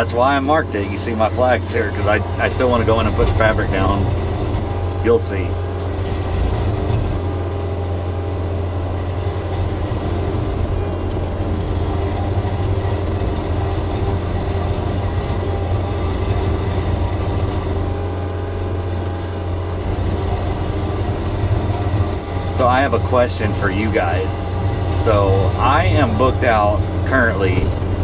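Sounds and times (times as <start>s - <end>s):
diesel engine under load: 0.0s - 28.0s
hydraulic whine: 0.0s - 28.0s.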